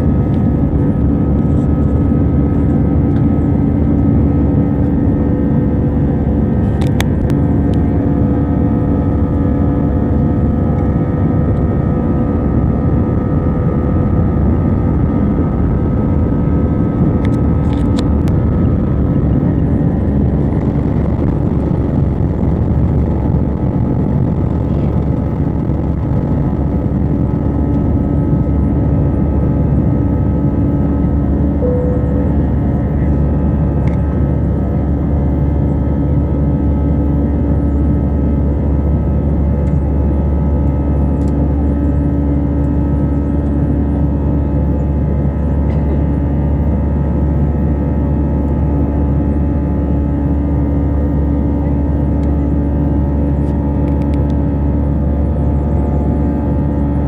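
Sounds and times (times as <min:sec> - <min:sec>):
jet engine noise inside cabin: 0:00.0 - 0:57.0
whining fan tones: 0:00.0 - 0:57.0.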